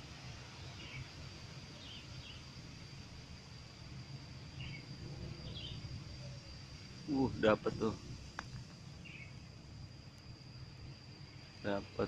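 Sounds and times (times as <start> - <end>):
steady low rumble: 0.0 - 12.0
thin steady high tone: 0.0 - 12.0.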